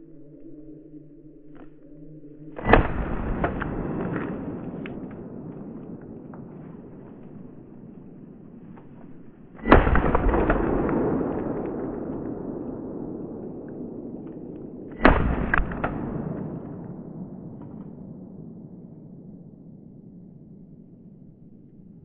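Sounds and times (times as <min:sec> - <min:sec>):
gunshots with rolling echo: 0:02.6 - 0:20.7.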